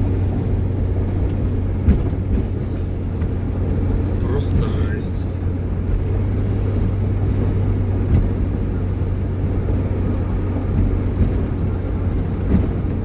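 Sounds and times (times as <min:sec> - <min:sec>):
strong wind: 0:00.0 - 0:13.0
vehicle engine and road drone: 0:00.0 - 0:13.0.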